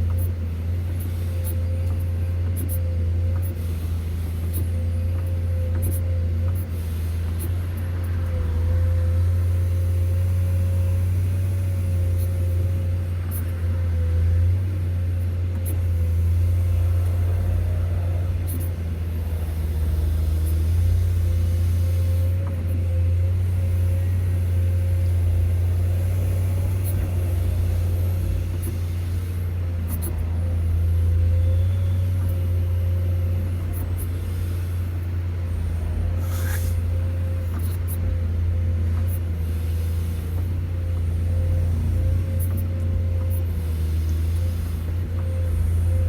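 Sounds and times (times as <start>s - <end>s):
diesel engine droning: 0.0s - 46.0s
faint engine whine: 0.0s - 46.0s.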